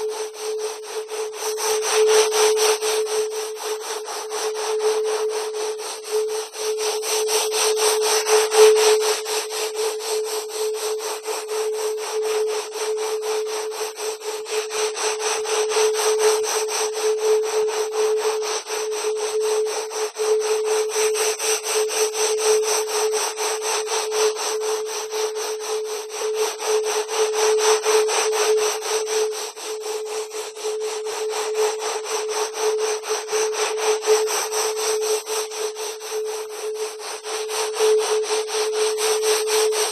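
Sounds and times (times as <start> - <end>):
steady mid-pitched tone: 0.0 - 23.1, 24.2 - 39.9.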